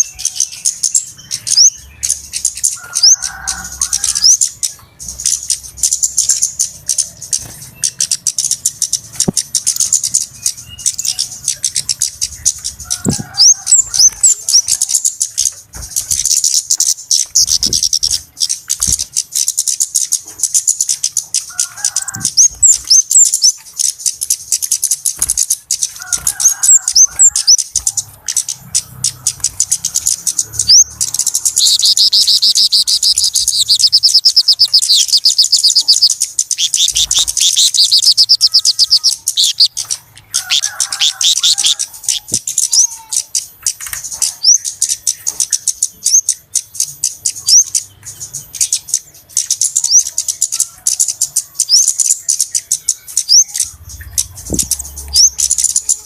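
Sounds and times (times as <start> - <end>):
birds ticking and chirping: 0.0 - 56.0
low bird chattering: 0.0 - 56.0.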